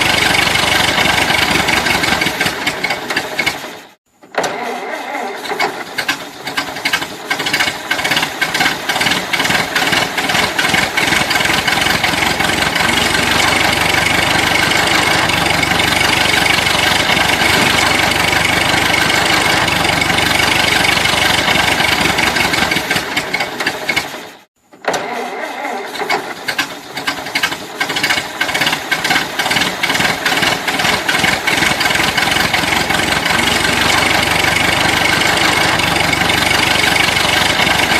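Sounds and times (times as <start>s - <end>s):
car engine cranking: 0.0s - 3.8s, 4.4s - 24.3s, 25.0s - 37.9s
old car engine running rough: 0.0s - 4.0s, 4.8s - 24.5s, 25.8s - 37.9s.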